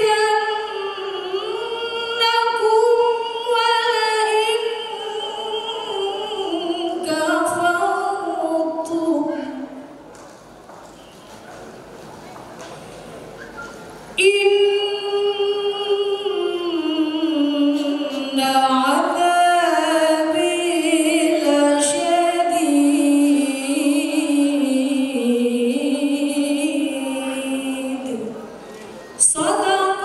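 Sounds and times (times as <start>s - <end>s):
woman singing into a microphone: 0.0s - 10.0s, 14.2s - 28.5s, 29.2s - 30.0s.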